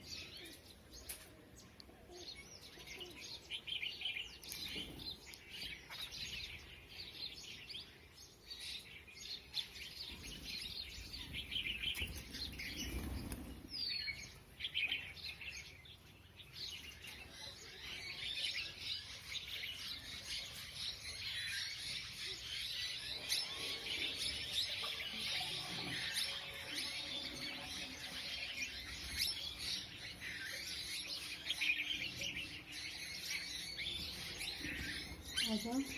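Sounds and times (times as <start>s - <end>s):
many birds chirping: 0.0s - 35.9s.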